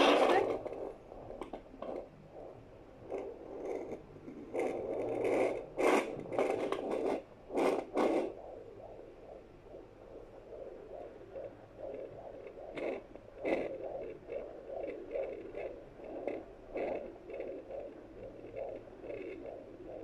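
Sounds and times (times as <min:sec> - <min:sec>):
fetal doppler scraping crackling noise: 0:00.0 - 0:20.0.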